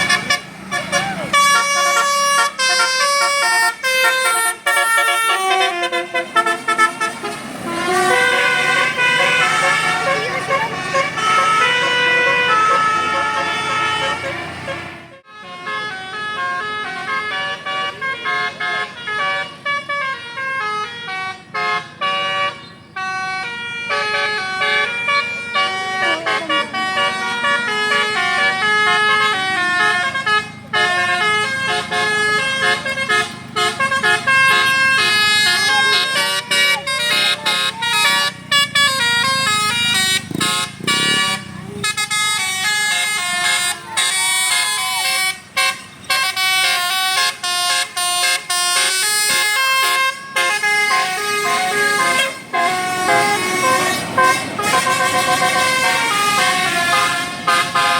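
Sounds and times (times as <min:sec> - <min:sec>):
bus musical horn playing a tune: 0:00.0 - 0:57.9.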